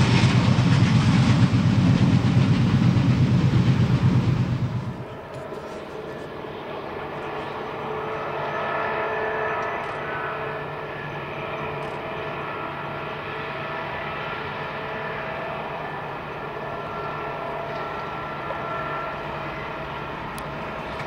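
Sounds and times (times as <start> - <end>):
distant train drone: 0.0 - 21.0
whining tones: 3.7 - 21.0.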